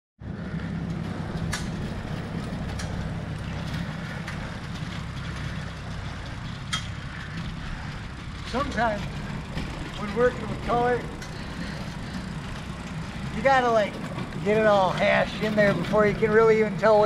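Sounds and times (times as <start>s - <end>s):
road travel rumble: 0.2s - 17.0s.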